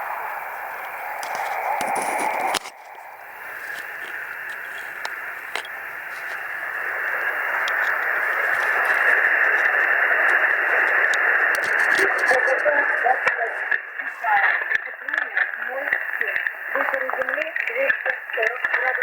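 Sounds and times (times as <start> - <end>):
radio static hiss: 0.0 - 19.0
faint clicks: 0.8 - 19.0.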